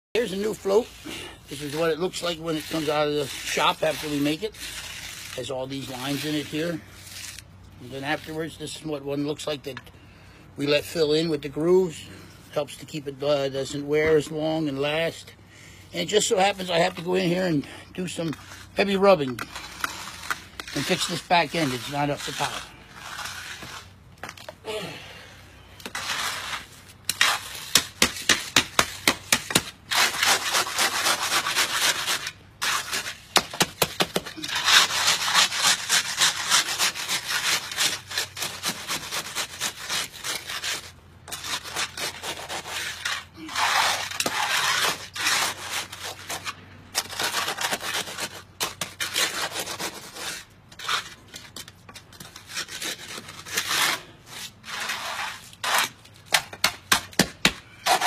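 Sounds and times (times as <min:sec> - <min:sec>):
hand float scraping concrete: 0:00.2 - 0:09.8, 0:16.0 - 0:24.7, 0:25.7 - 0:58.0.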